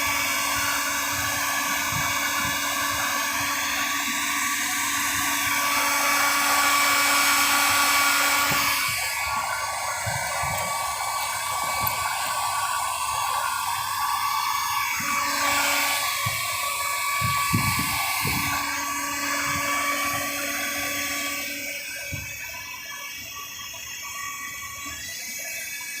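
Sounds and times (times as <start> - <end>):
power tool whining: 0.0 - 26.0.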